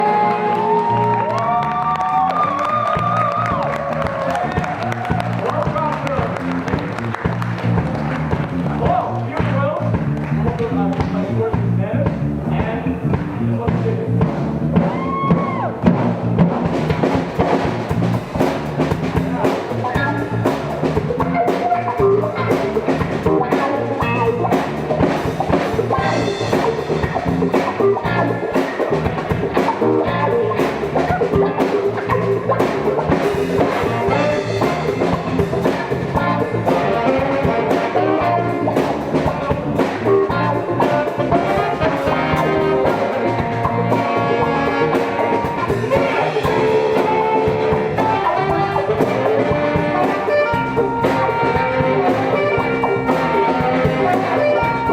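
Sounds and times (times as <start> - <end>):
drum kit: 0.0 - 54.9
guitar: 0.0 - 54.9
live band playing jazz-funk: 0.0 - 54.9.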